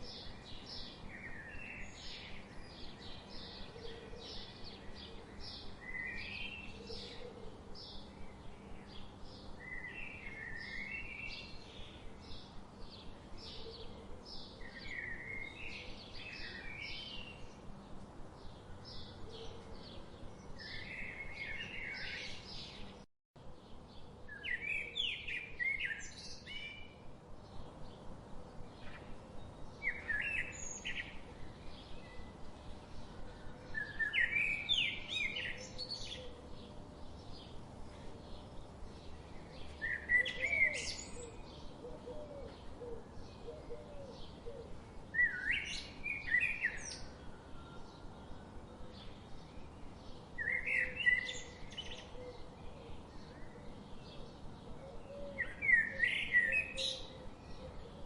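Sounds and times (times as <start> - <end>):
birds chirping and trilling: 0.0 - 58.0
faint background hiss: 0.0 - 58.0.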